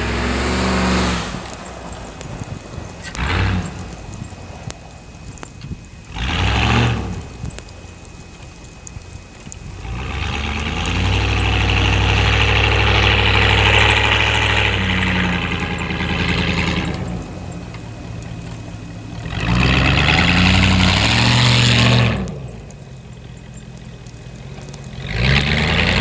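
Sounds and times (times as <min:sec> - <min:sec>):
truck exhaust revving: 0:00.0 - 0:26.0.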